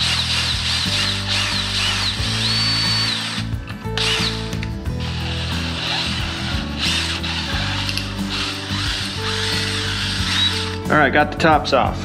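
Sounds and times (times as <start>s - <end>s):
cordless drill whining: 0.0s - 10.9s
background music: 0.0s - 12.0s.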